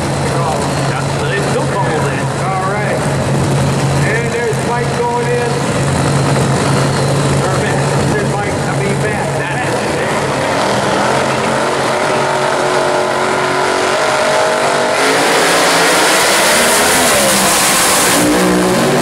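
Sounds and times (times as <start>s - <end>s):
drag racing cars idling: 0.0s - 19.0s
loud engine blast: 0.0s - 19.0s.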